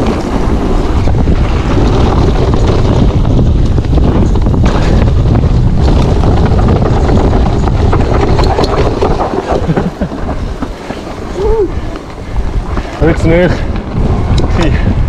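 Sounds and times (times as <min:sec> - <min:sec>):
bike rattles and knocks: 0:00.0 - 0:15.0
bike tyre noise on dirt: 0:00.0 - 0:15.0
wind buffeting microphone: 0:00.0 - 0:15.0.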